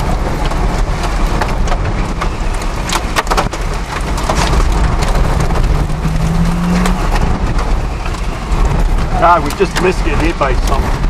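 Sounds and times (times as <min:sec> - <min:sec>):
rain striking a windshield: 0:00.0 - 0:11.0
wind and road noise rumble: 0:00.0 - 0:11.0.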